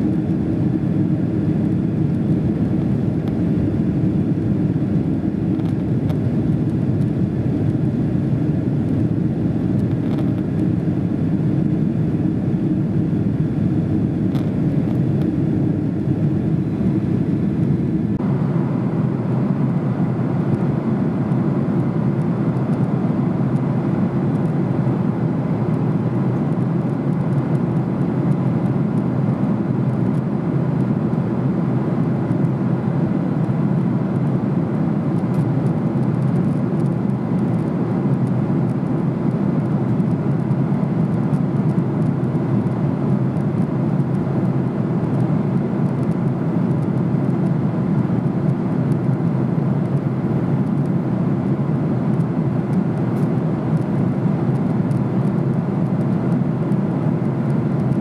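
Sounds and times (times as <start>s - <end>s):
airliner cabin noise: 0.0s - 58.0s.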